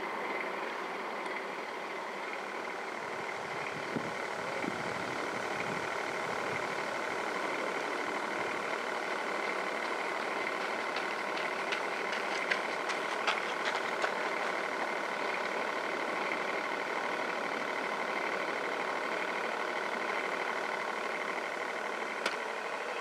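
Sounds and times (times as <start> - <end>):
model boat motor humming: 0.0 - 23.0.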